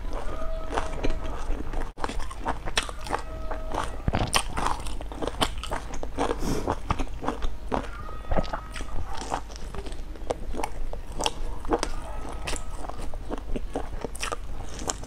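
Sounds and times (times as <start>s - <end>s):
chewing and biting buns: 0.0s - 15.0s.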